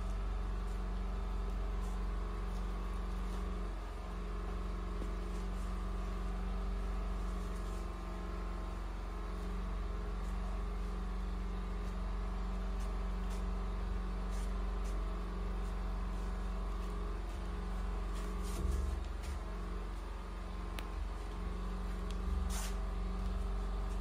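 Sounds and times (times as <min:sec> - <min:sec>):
low mechanical drone: 0:00.0 - 0:24.0.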